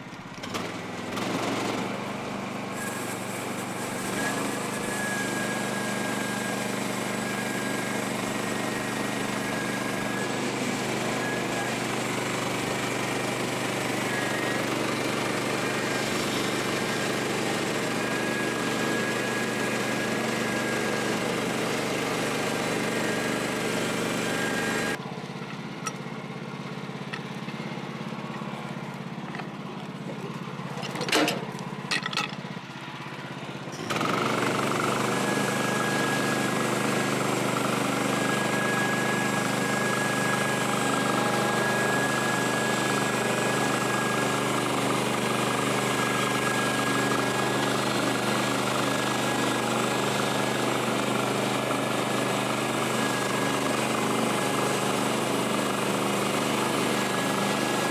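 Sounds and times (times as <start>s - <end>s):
small gas engine running: 0.0s - 57.9s.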